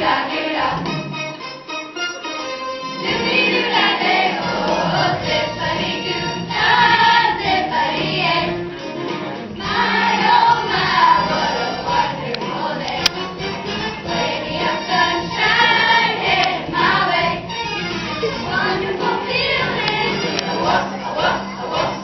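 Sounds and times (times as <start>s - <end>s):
children's chorus singing: 0.0s - 1.0s, 2.9s - 8.7s, 9.6s - 22.0s.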